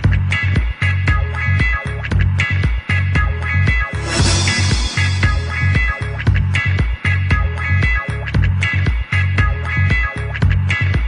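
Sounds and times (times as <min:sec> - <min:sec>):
music with steady beat and heavy bass: 0:00.0 - 0:11.0.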